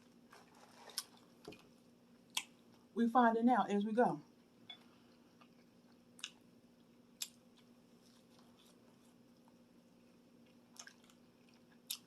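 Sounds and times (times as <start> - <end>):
quiet chewing: 0.0 - 2.8, 4.4 - 12.0
faint steady hum: 0.0 - 12.0.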